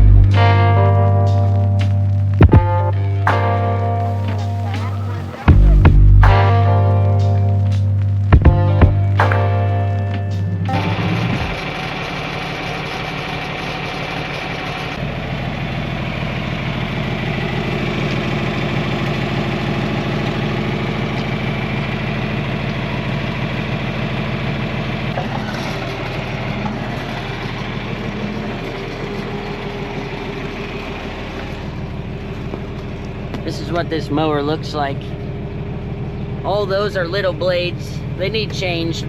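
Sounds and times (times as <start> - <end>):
tractor engine idling: 0.0 - 39.0.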